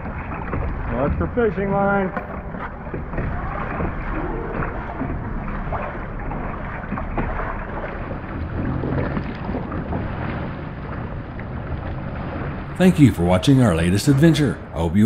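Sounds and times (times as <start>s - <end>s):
kayak paddling: 0.0s - 15.0s
water sloshing around hull: 0.0s - 15.0s.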